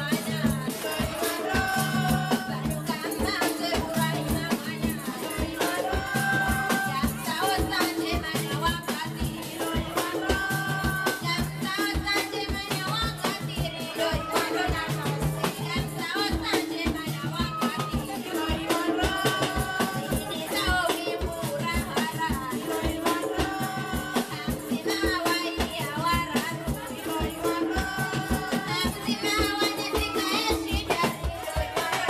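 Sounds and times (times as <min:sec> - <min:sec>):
barrel drum beating: 0:00.0 - 0:32.0
voices singing a melody: 0:00.0 - 0:32.0.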